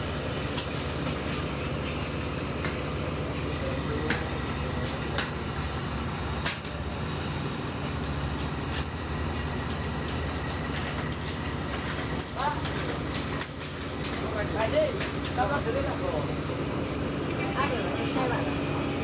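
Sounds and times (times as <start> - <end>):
heavy machine engine rumbling: 0.0 - 19.0.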